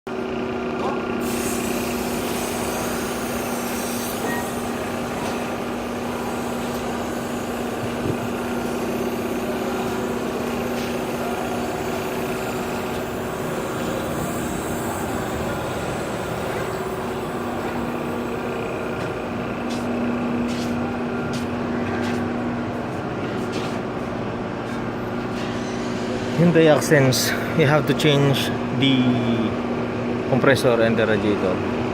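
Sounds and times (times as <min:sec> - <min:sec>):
steady mechanical hum: 0:00.1 - 0:31.9.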